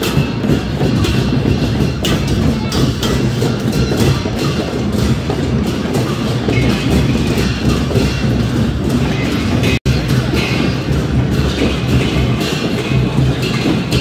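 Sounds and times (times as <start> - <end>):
percussion playing steady beat: 0.0 - 14.0.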